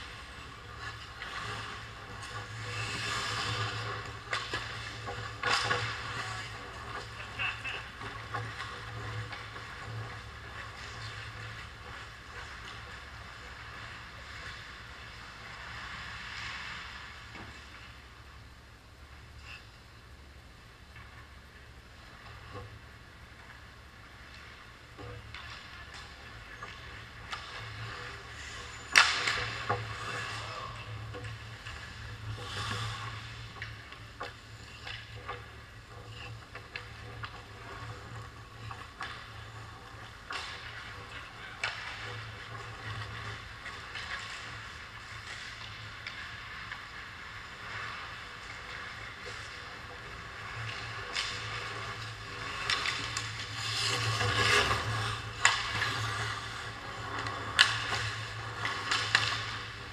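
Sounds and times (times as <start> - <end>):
hockey sticks and puck clacking: 0.0 - 18.0, 22.0 - 59.9
skate blades scraping ice: 0.0 - 18.0, 22.1 - 59.9
low rink hum: 0.0 - 59.9.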